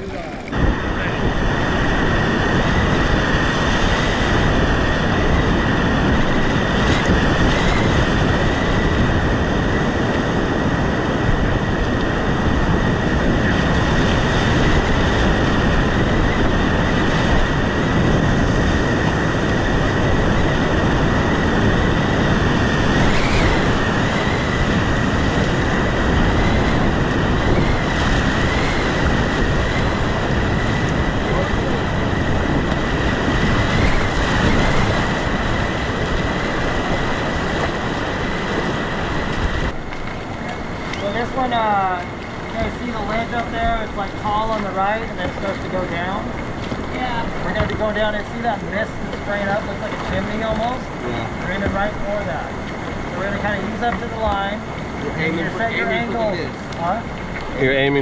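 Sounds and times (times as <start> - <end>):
rushing whitewater: 0.0 - 58.0.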